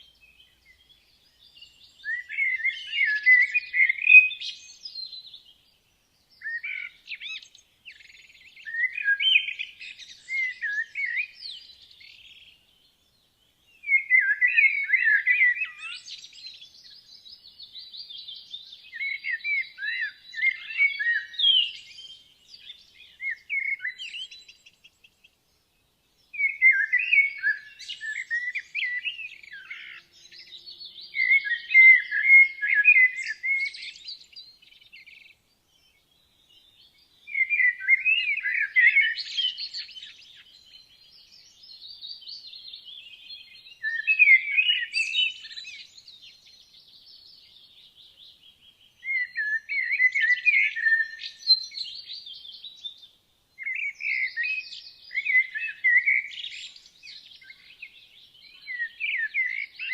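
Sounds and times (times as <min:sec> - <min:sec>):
songbirds warbling: 0:00.0 - 0:59.9.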